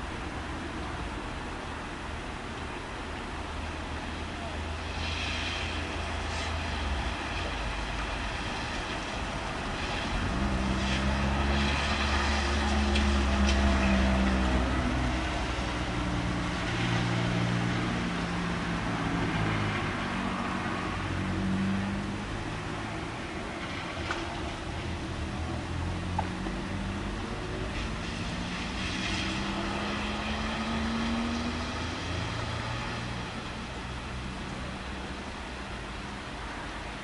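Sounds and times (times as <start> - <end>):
rain hiss: 0.0 - 37.0.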